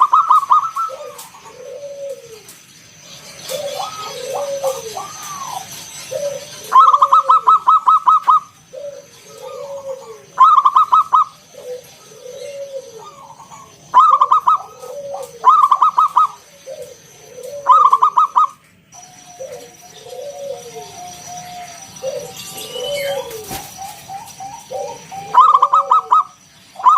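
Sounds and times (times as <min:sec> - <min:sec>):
dove cooing: 0:00.0 - 0:26.9
faint high whine: 0:00.0 - 0:26.9.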